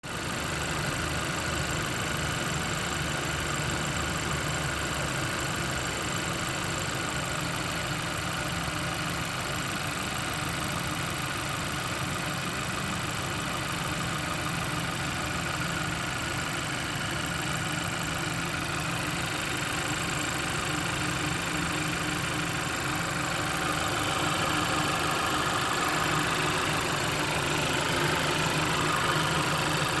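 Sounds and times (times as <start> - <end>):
car engine idling with whine: 0.0 - 30.0.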